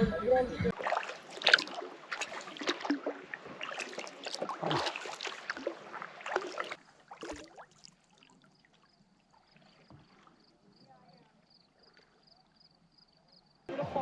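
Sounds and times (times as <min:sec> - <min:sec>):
paddle splashing water: 0:00.0 - 0:12.4.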